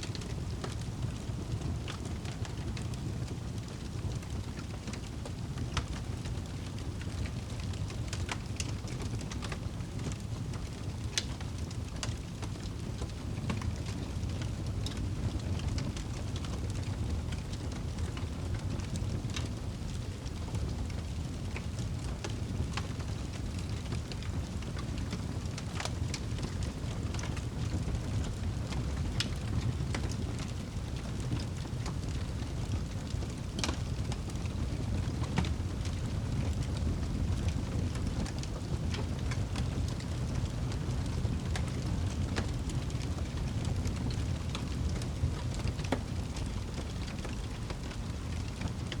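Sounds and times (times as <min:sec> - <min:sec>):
burning wood crackling and popping: 0:00.0 - 0:49.0
fire flames rumbling: 0:00.0 - 0:49.0.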